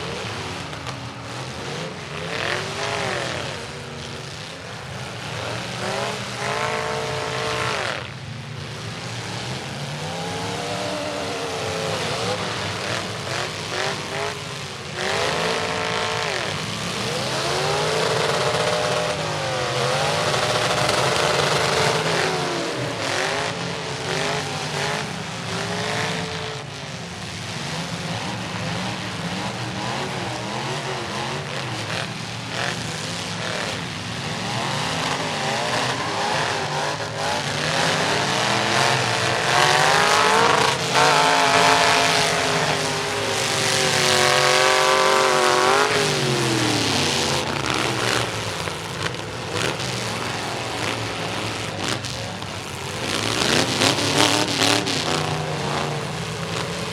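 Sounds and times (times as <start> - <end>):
truck engines revving: 0.0 - 56.9.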